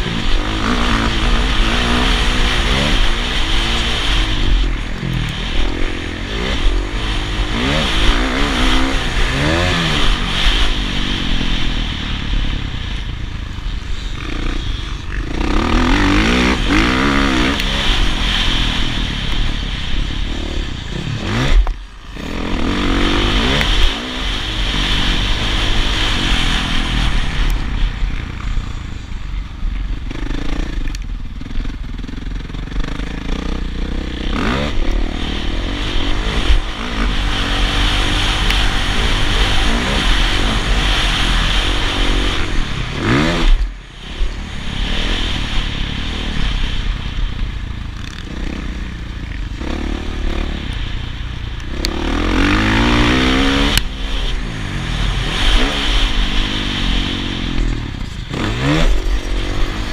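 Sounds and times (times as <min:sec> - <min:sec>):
dirt bike engine revving: 0:00.0 - 0:59.9
wind noise: 0:00.0 - 0:59.9.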